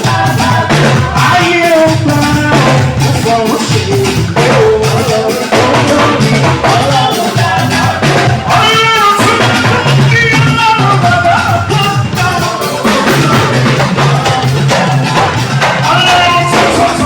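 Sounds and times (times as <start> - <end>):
drums and percussion: 0.0 - 17.0
live band music: 0.0 - 17.0
person singing: 0.0 - 17.0.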